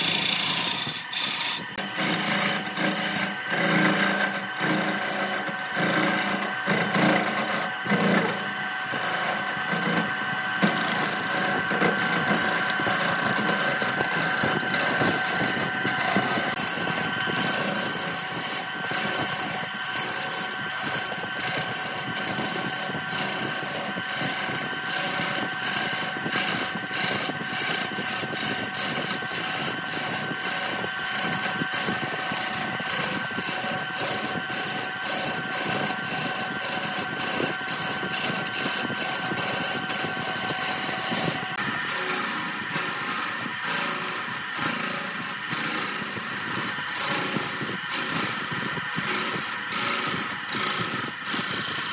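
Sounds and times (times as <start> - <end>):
lathe gouge cutting wood: 0.0 - 51.9
lathe whine: 0.0 - 51.9.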